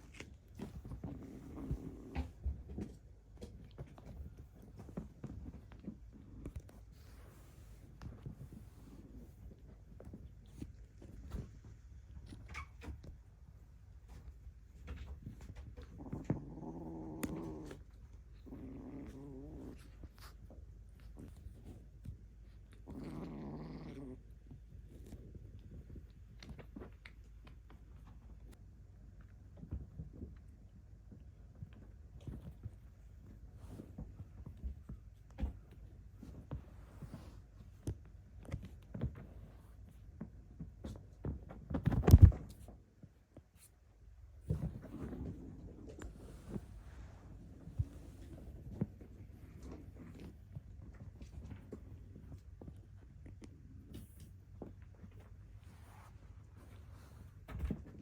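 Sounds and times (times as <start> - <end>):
kittens scuffling: 0.0 - 58.0.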